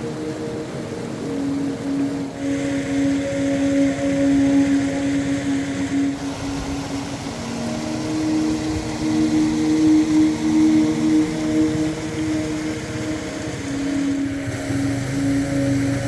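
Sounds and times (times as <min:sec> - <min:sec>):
ambient synth droning chords: 0:00.0 - 0:16.0.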